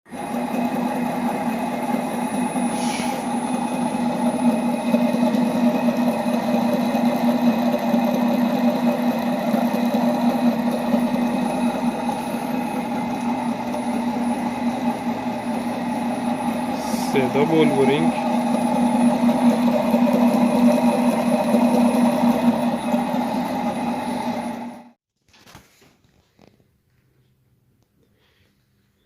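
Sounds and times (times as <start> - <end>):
servo motor rough hum: 0.2 - 24.8.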